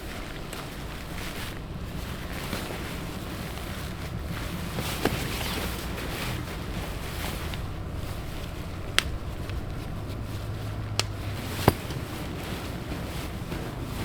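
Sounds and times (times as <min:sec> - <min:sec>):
low rumble of wind on microphone: 0:00.0 - 0:14.0.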